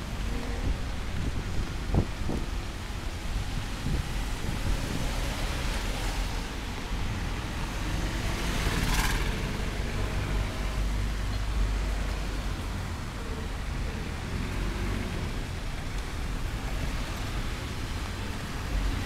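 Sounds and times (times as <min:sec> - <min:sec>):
traffic rumble: 0:00.0 - 0:19.0
tyres hissing on wet road: 0:00.0 - 0:19.0.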